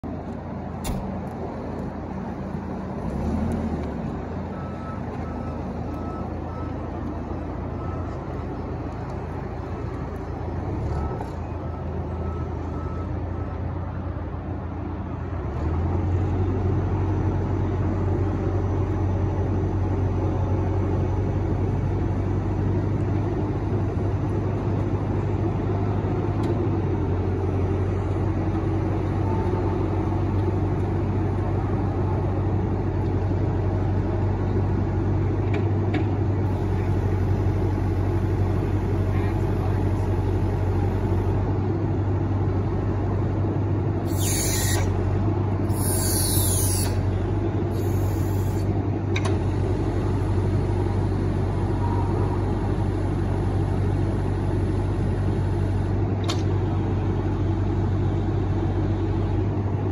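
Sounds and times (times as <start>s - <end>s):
forklift diesel engine running: 0.0s - 59.9s.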